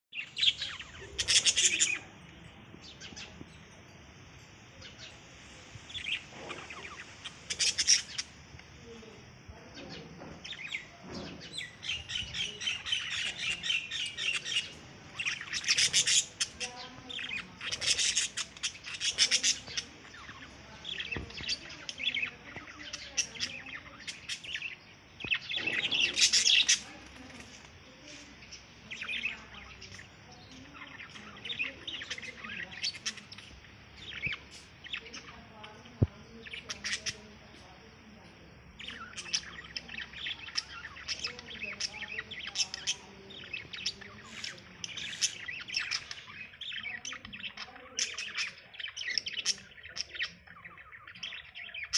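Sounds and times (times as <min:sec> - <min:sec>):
budgerigars chirping: 0:00.1 - 0:02.2, 0:05.9 - 0:51.9.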